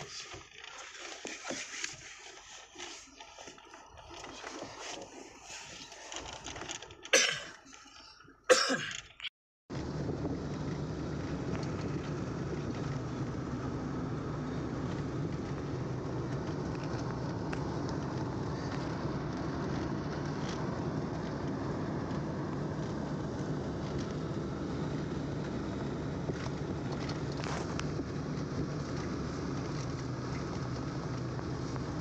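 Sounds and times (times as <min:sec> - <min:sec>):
vehicle road and engine noise: 0:00.0 - 0:32.0.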